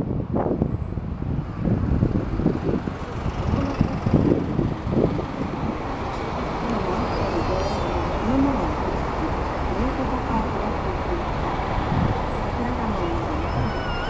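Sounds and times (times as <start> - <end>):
wind buffeting microphone: 0.0 - 9.0, 9.8 - 14.0
road traffic noise: 0.0 - 14.0.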